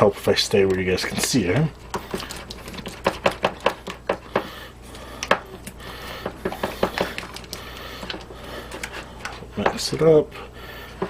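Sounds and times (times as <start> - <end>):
utensil stirring sauce in bowl: 0.3 - 10.1.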